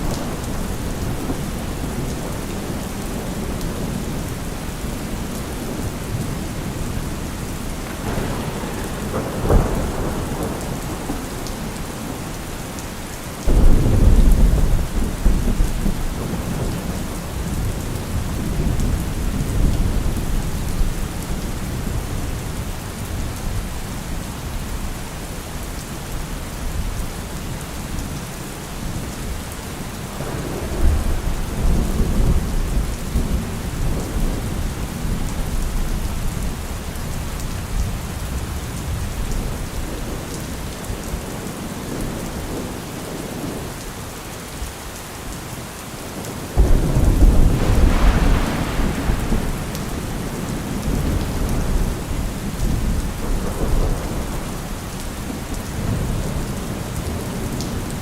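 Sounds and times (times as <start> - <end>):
thunder rumbling: 0.0 - 22.6, 30.1 - 43.7, 46.6 - 58.0
steady rain: 0.0 - 58.0.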